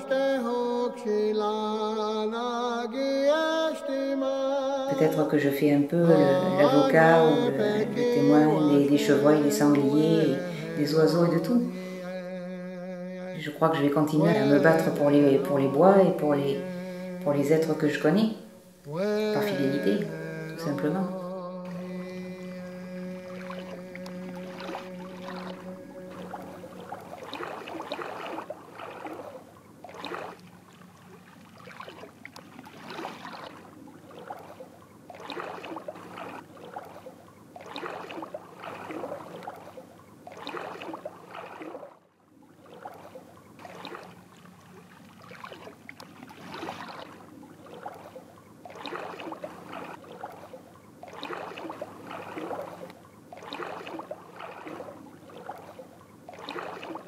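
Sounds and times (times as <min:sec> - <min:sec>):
water lapping: 0:00.0 - 0:57.0.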